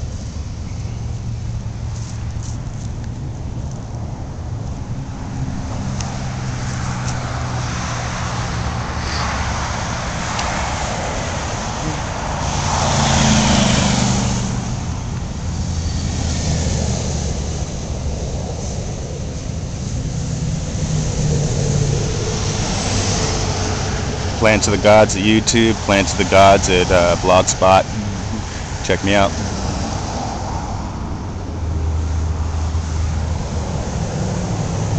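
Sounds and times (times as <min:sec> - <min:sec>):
road traffic hum: 0:00.0 - 0:34.9
vehicle passing: 0:04.9 - 0:34.9.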